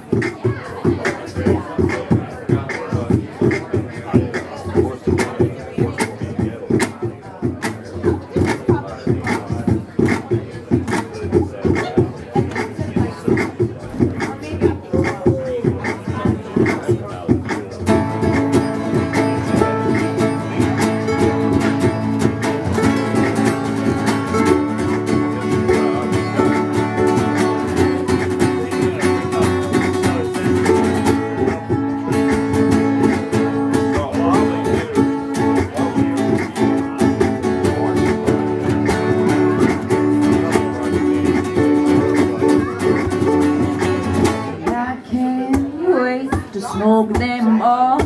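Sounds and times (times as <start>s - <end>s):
acoustic guitars strumming: 0.0s - 45.7s.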